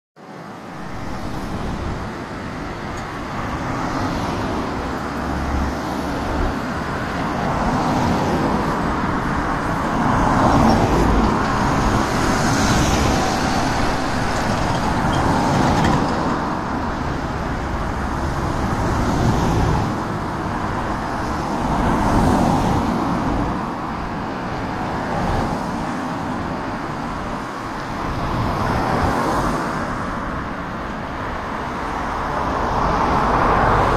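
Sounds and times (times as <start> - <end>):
road traffic noise: 0.2 - 33.9.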